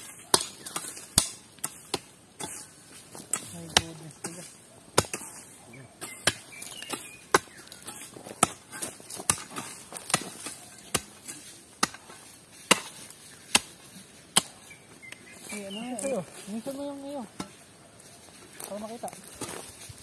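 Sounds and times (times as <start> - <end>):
hoes chopping into ground: 0.0 - 15.3, 17.3 - 17.6, 19.1 - 19.8.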